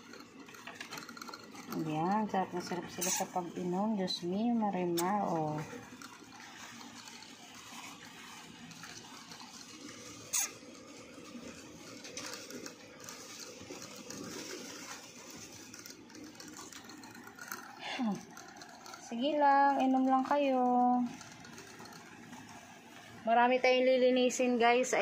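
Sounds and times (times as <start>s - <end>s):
hamsters drinking from sipper tube: 0.0s - 23.2s.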